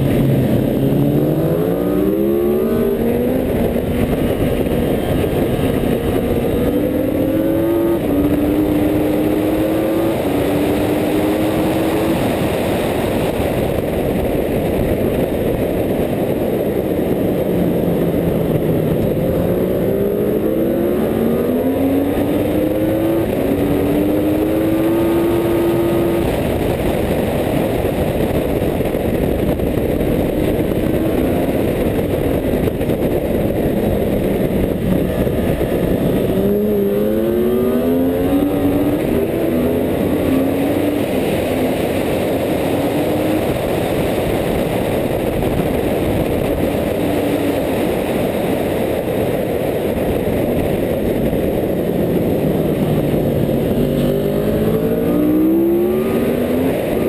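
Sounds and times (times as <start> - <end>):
motorcycle engine accelerating: 0.0 - 57.0
wind rush: 0.0 - 57.0.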